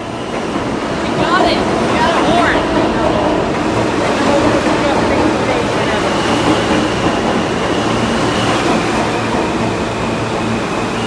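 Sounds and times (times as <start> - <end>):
subway train rumbling and rattling: 0.0 - 11.0.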